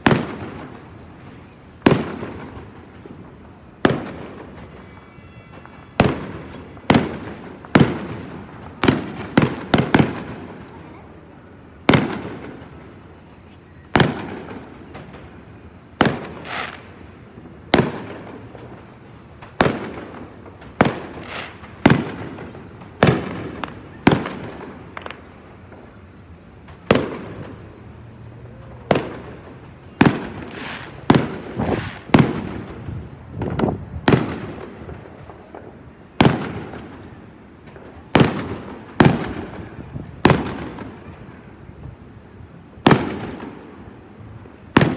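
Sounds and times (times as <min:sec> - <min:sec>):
fireworks bangs echoing: 0:00.0 - 0:44.9.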